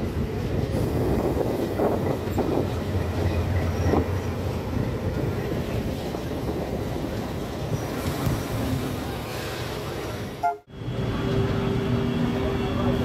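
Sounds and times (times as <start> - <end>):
train clatters: 0.0 - 10.5
locomotive engine drone: 0.0 - 13.0
train wheels rumbling on rails: 0.0 - 13.0.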